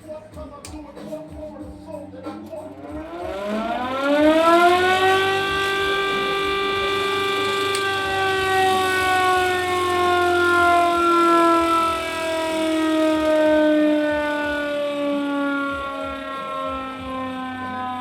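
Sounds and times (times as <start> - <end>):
air raid siren wailing: 2.7 - 18.0.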